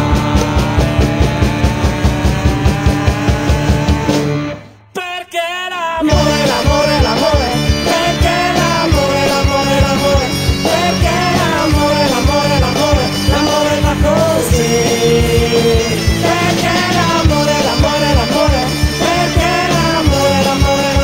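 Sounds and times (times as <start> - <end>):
upbeat rock song with vocals: 0.0 - 21.0.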